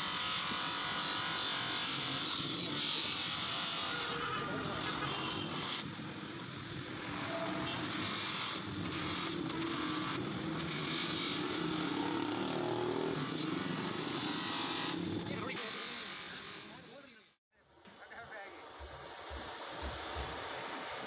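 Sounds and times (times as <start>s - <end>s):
bench polisher motor running: 0.0s - 17.0s.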